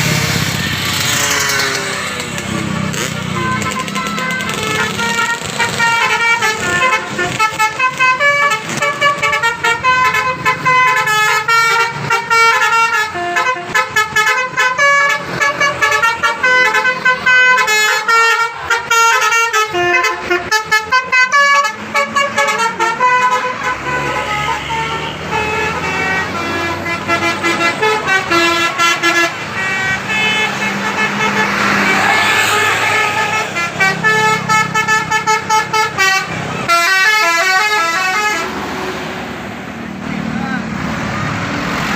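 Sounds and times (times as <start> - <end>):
musical bus horn: 0.0 - 39.0
heavy bus engine: 0.0 - 41.9.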